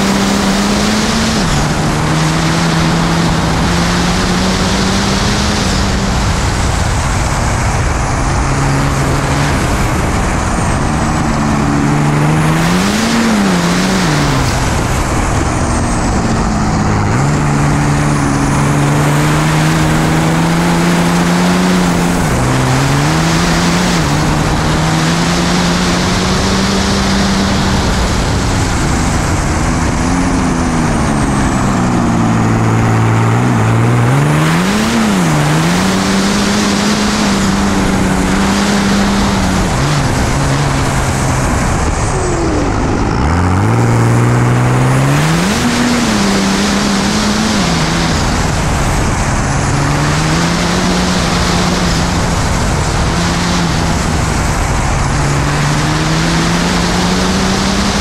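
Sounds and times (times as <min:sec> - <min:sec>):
diesel engine under hard driving: 0:00.0 - 0:58.0
wind rush: 0:00.0 - 0:58.0.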